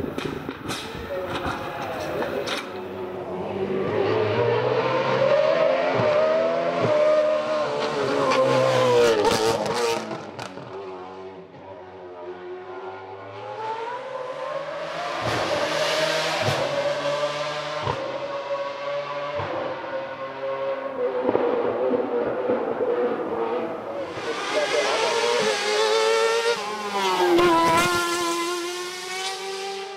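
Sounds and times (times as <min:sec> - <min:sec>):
racing car engine revving: 0:02.6 - 0:11.2, 0:12.4 - 0:29.9.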